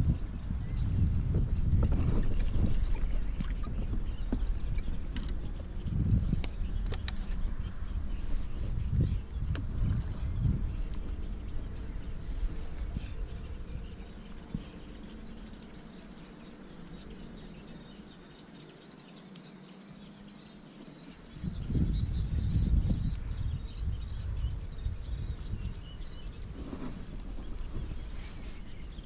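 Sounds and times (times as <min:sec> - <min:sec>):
low rumbling: 0:00.0 - 0:18.4, 0:20.2 - 0:29.0
small birds chirping: 0:01.7 - 0:29.0.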